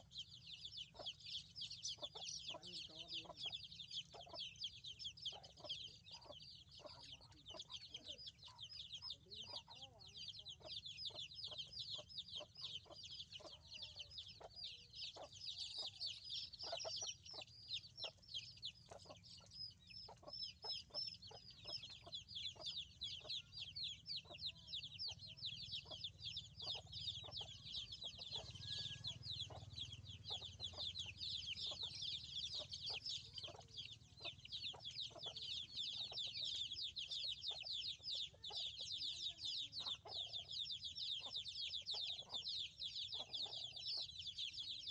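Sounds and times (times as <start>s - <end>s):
chickens clucking: 0.0s - 44.9s
chicks chirping: 0.0s - 44.9s.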